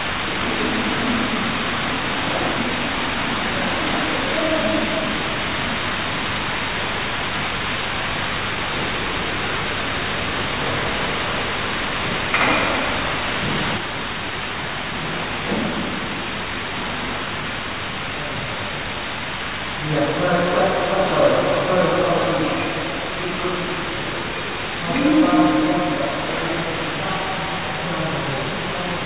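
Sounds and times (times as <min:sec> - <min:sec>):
amplified room tone hiss: 0:00.0 - 0:29.0.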